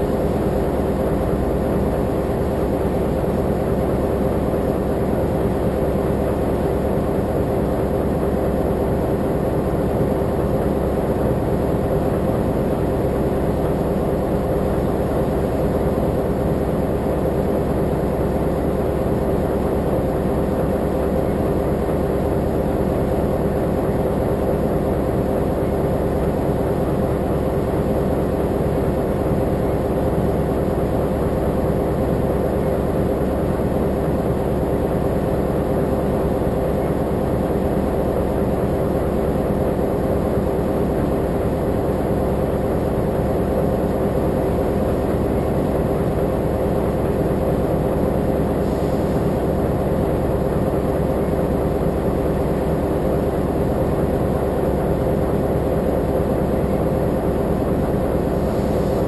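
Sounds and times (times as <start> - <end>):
diesel locomotive engine idling: 0.0 - 59.0.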